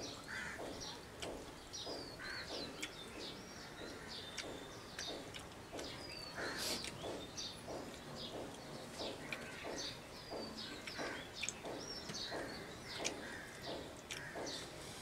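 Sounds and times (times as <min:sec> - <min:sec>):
man chewing food: 0:00.0 - 0:15.0
small birds chirping: 0:00.0 - 0:15.0.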